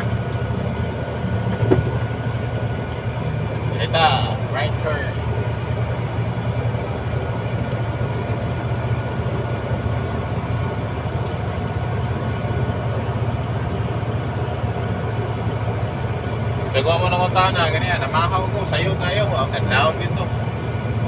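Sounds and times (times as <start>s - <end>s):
truck diesel engine running: 0.0s - 21.0s.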